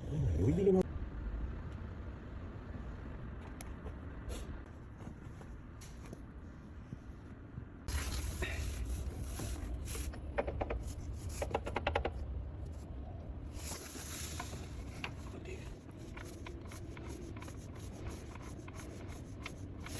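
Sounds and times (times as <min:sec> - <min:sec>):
low steady rumble: 0:00.0 - 0:19.9.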